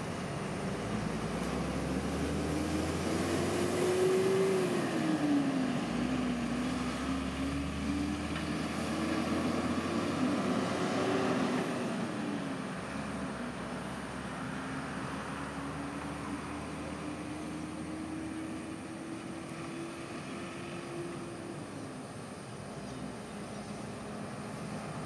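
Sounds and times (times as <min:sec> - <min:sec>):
buses and cars passing: 0:00.0 - 0:25.0.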